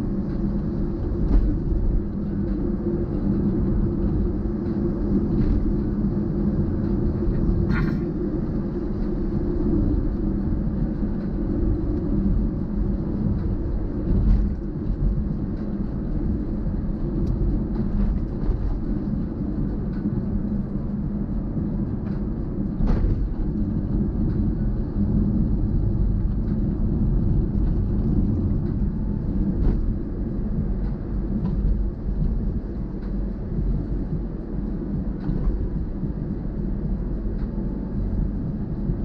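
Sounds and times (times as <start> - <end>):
vehicle engine and road noise: 0.0 - 39.0.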